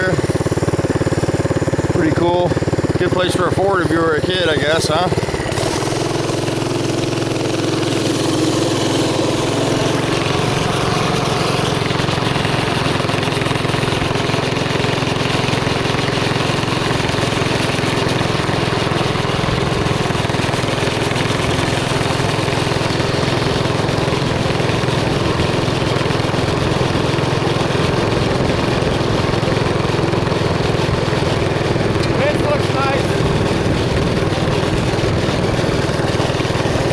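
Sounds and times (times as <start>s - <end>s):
mini bike engine running: 0.0s - 36.9s.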